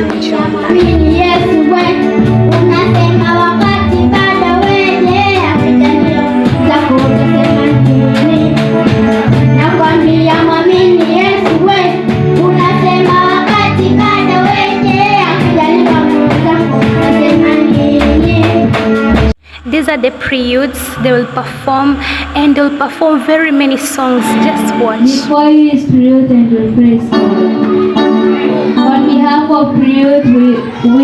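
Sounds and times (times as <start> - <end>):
amplified band backing: 0.0 - 31.0.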